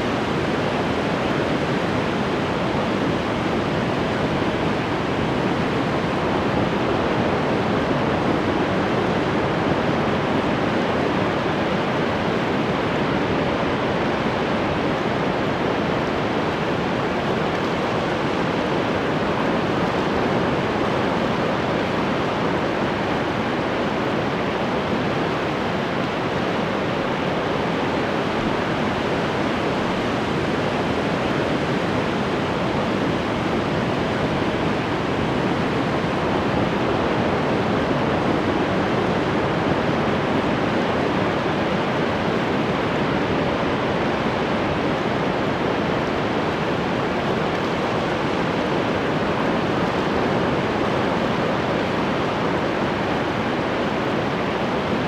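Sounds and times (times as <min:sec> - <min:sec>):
ocean waves washing: 0:00.0 - 0:32.2, 0:39.2 - 0:55.0.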